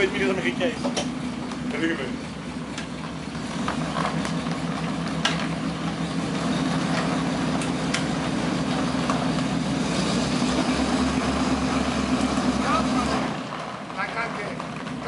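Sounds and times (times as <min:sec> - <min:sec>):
tank engines running: 0:00.0 - 0:15.0
tank tracks on gravel: 0:00.0 - 0:15.0.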